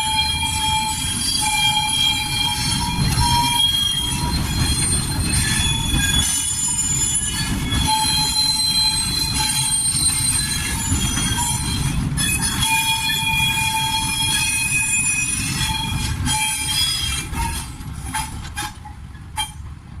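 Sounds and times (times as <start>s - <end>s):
train wheels squealing: 0.0s - 19.6s
low train rumble: 0.0s - 20.0s.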